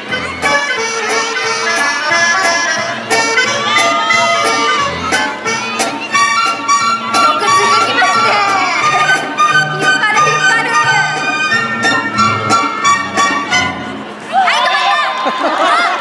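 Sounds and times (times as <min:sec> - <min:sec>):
music over loudspeakers: 0:00.0 - 0:14.2.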